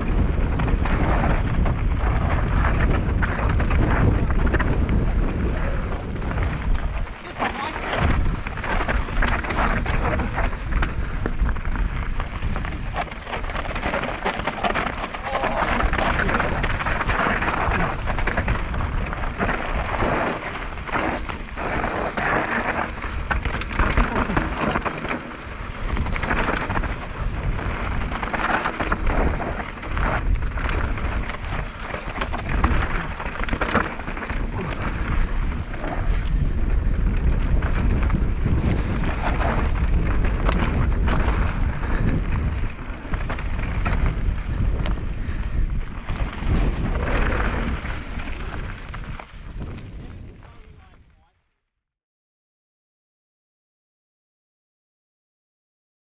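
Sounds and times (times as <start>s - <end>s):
bike rattles and knocks: 0.0s - 50.0s
wind buffeting microphone: 0.0s - 51.2s
bike tyres rolling on dirt: 0.0s - 51.4s.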